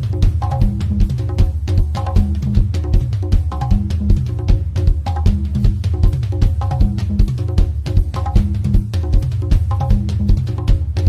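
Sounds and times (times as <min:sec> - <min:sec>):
bass line: 0:00.0 - 0:11.0
drum kit beat: 0:00.0 - 0:11.0.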